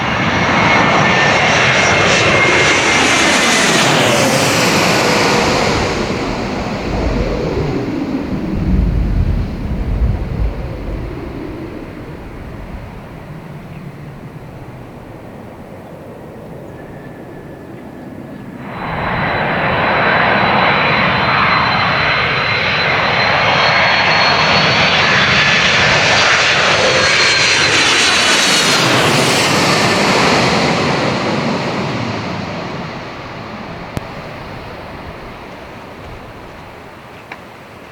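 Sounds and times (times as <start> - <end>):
airliner passing overhead: 0.0 - 37.9.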